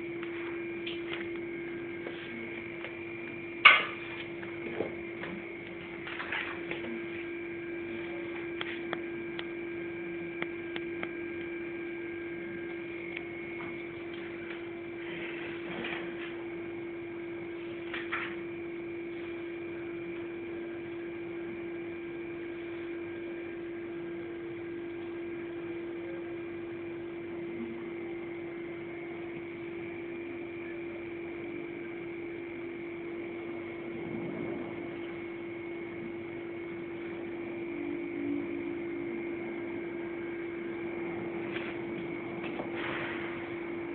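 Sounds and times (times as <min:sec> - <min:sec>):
electrical hum: 0:00.0 - 0:43.9
high whine: 0:00.0 - 0:43.9.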